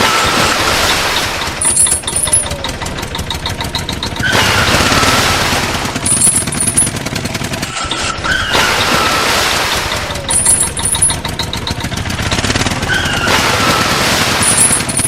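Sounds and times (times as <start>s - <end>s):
cartoon truck engine rattling: 0.0s - 15.0s.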